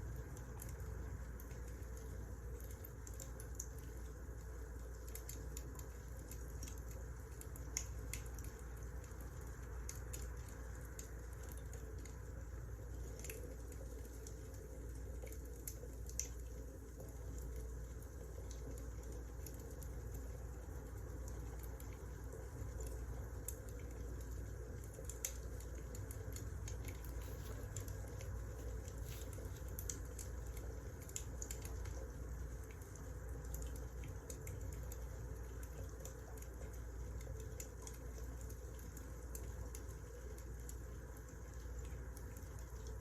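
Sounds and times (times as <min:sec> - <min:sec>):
low steady rumble: 0:00.0 - 0:43.0
wood fire crackling: 0:00.2 - 0:36.6.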